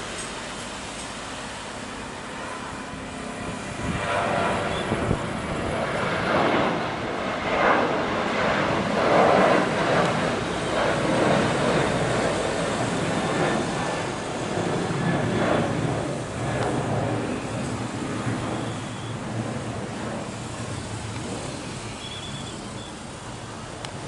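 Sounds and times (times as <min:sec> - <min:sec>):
airliner engines at takeoff: 0:00.0 - 0:24.0.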